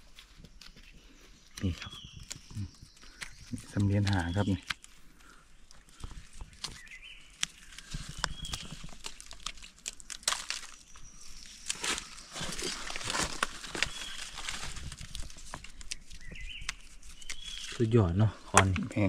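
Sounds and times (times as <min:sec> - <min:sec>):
dry leaves crackling and rustling: 0:00.0 - 0:18.0
wood snapping: 0:01.5 - 0:17.9, 0:18.5 - 0:19.0.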